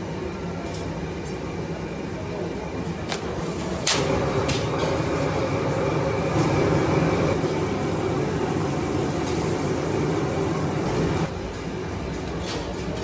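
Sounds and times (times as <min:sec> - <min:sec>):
charcoal grill roar and hiss: 0:00.0 - 0:13.0.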